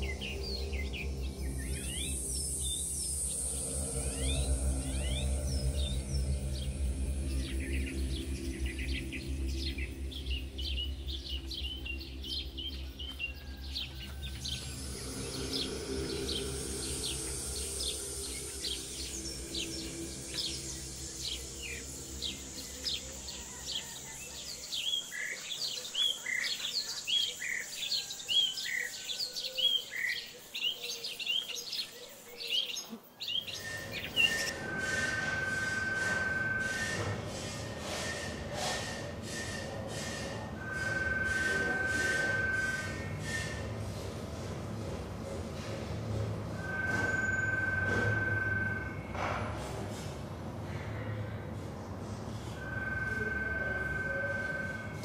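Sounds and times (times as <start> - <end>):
steady high tone: 0.0 - 25.5, 33.5 - 55.0
low droning music: 0.0 - 30.0, 33.4 - 55.0
birds chirping: 0.0 - 50.0.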